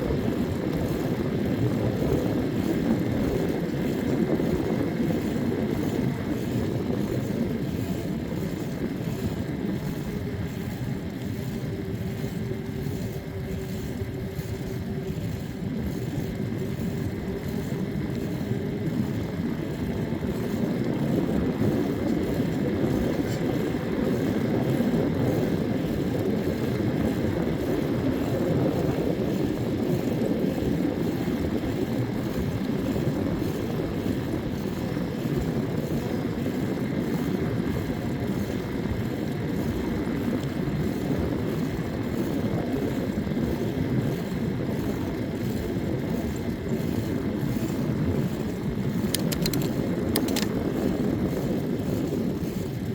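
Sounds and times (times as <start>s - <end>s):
road noise low rumble: 0.0s - 52.9s
wind rushing over microphone: 0.0s - 52.9s.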